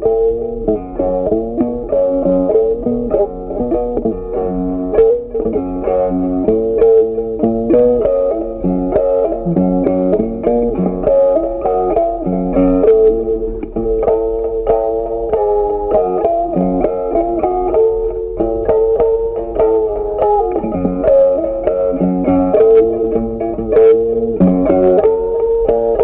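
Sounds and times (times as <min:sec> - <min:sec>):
plucked guitar tune: 0:00.0 - 0:26.0.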